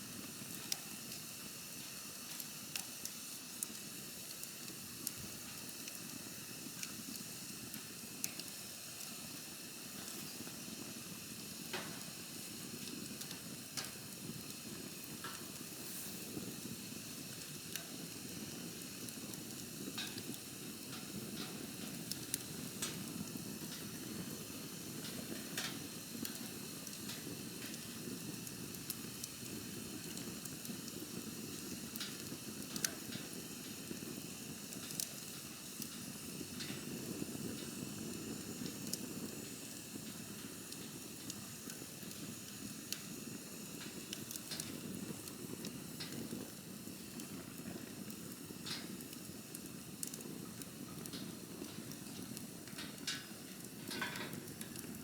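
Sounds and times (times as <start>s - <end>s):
fire crackling and popping: 0.0s - 55.0s
rush of campfire flames: 0.0s - 55.0s.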